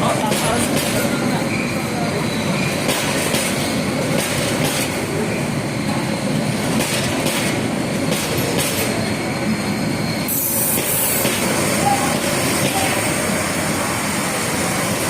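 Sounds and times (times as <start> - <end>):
train rattle: 0.0 - 15.0
train rumbling on track: 0.0 - 15.0.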